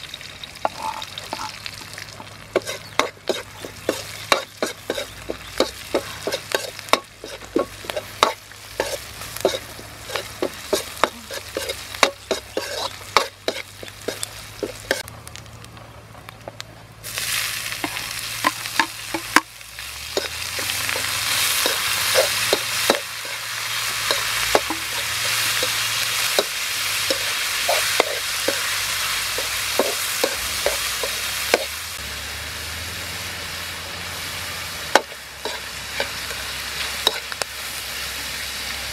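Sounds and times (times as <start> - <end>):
loud sizzling: 0.0 - 15.6, 17.0 - 38.9
metal spatula scraping wok: 0.6 - 1.8, 2.4 - 15.0, 17.8 - 31.8, 34.2 - 38.1.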